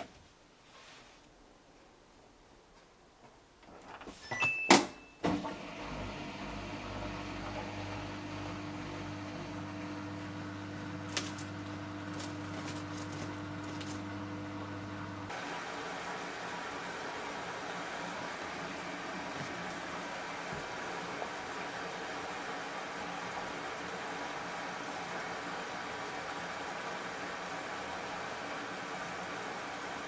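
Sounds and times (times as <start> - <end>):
washing machine humming: 5.2 - 30.0.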